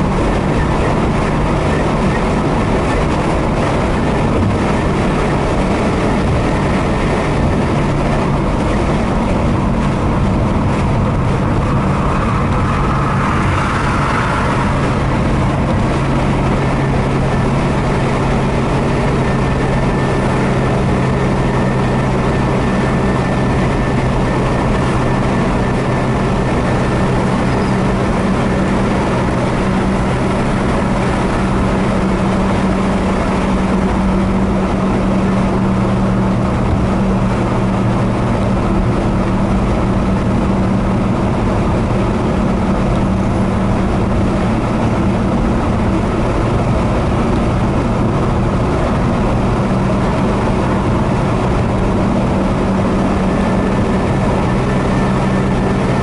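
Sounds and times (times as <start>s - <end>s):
road noise rushing: 0.0s - 56.0s
vehicle engine hum: 0.0s - 56.0s.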